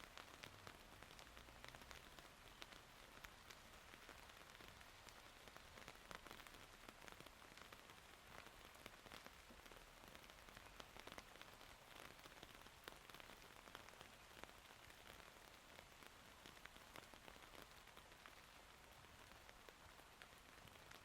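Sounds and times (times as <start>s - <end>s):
rain falling: 0.0s - 21.0s
raindrops ticking: 0.0s - 21.0s.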